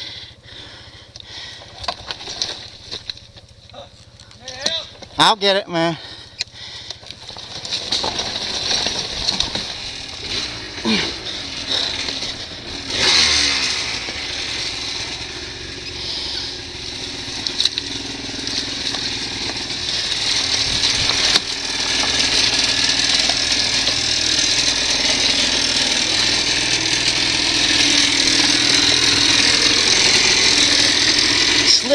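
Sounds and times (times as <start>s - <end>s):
dirt bike engine revving: 2.0s - 31.9s.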